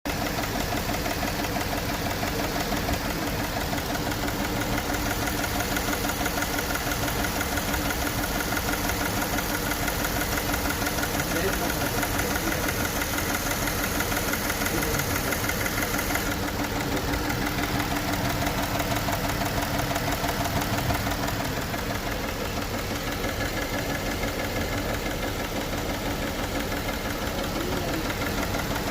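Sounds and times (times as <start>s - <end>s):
engine idling with misfire: 0.0s - 28.9s
cylinder head rattle: 1.2s - 28.9s.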